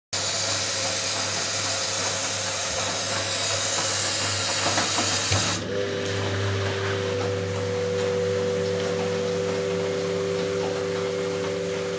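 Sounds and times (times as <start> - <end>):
washing machine rinsing: 0.1 - 11.9.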